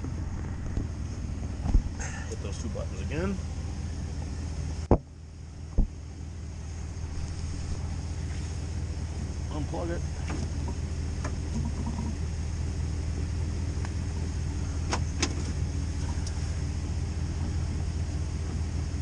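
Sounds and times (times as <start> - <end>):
pickup truck engine idling: 0.0 - 19.0.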